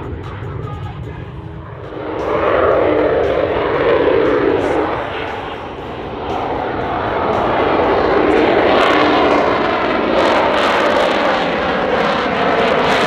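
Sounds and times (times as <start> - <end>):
fighter jet roaring overhead: 0.0 - 13.0.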